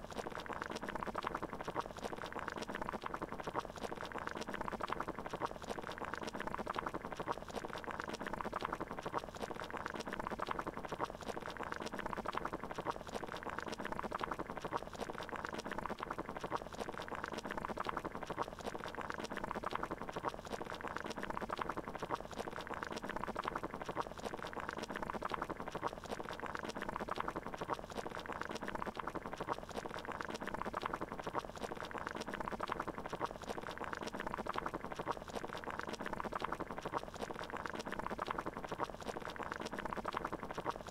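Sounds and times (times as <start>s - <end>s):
water boiling: 0.0s - 40.9s.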